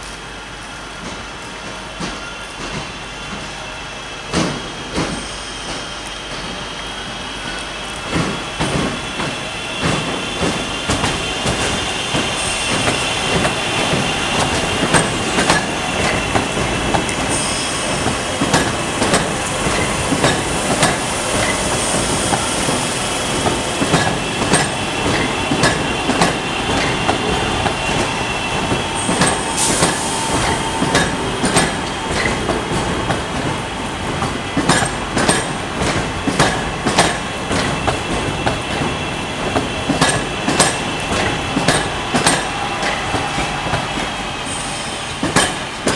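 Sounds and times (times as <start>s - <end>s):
train wheels rumbling and clicking: 0.0s - 45.9s.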